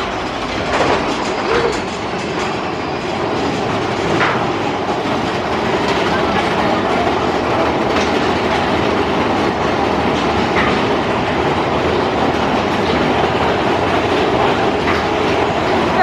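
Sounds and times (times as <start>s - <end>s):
roller coaster wheels rumbling: 0.0s - 16.0s.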